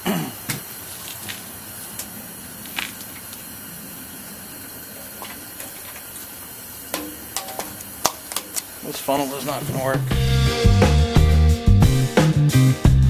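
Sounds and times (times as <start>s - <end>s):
portable heater hissing: 0.0s - 10.6s.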